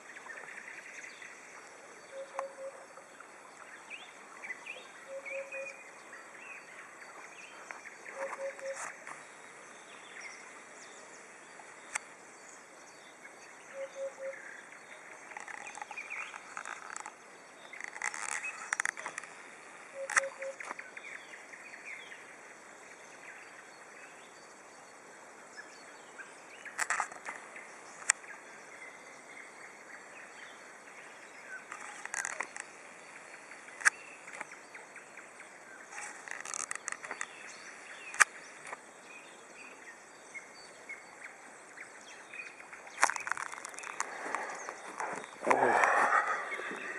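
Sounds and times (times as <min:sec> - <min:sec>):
nightingales singing: 0:00.0 - 0:46.9.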